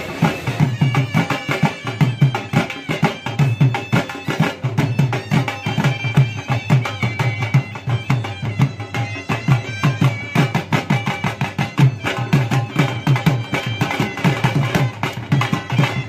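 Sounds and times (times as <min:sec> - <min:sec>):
drum beat: 0:00.0 - 0:16.0
reedy wind instrument melody: 0:00.0 - 0:16.0.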